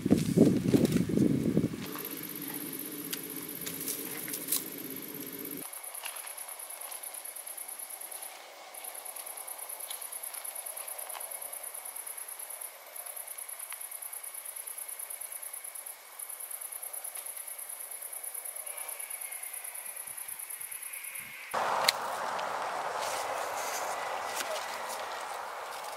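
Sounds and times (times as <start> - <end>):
lower continuous insect trill: 0.2 - 25.9
high-pitched pulsing insect trill: 1.8 - 25.9.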